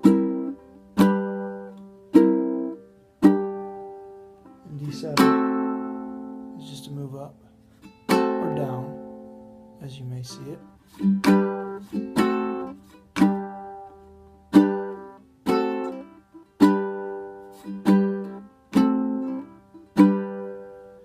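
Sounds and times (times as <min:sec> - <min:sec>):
ukulele chords strummed: 0:00.0 - 0:21.0.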